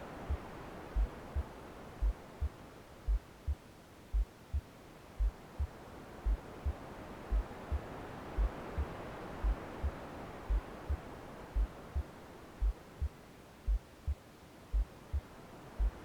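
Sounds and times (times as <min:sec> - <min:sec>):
white noise: 0:00.0 - 0:16.0
heartbeat thumps: 0:00.3 - 0:16.0.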